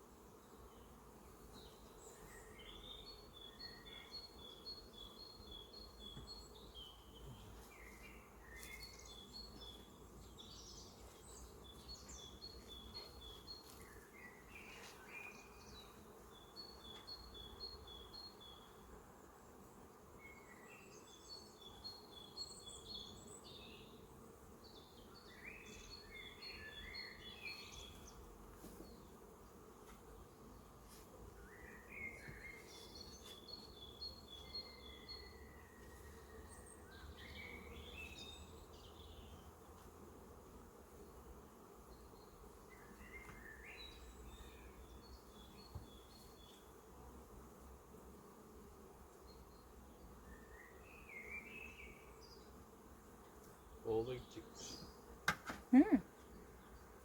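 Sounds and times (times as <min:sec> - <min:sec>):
songbirds singing: 0:00.0 - 0:30.6, 0:31.4 - 0:39.9, 0:41.8 - 0:46.8, 0:48.3 - 0:57.0
honeybees buzzing: 0:00.0 - 0:57.0.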